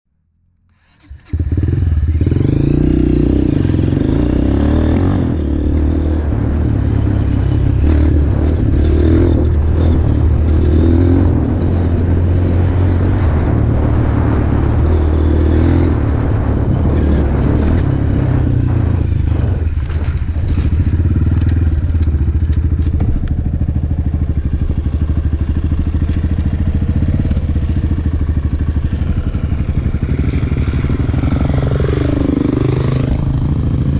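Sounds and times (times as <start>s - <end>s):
motorcycle engine revving: 0.8s - 33.9s.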